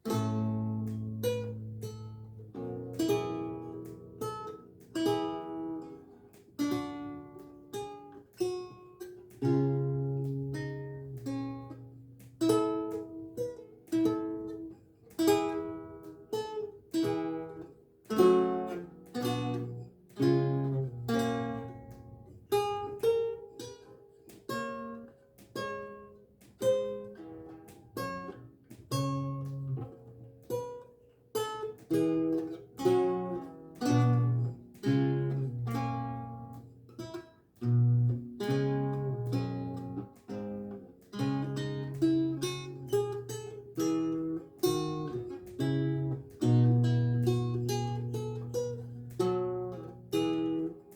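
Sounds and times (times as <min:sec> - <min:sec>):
lute playing slow piece: 0:00.0 - 0:50.9.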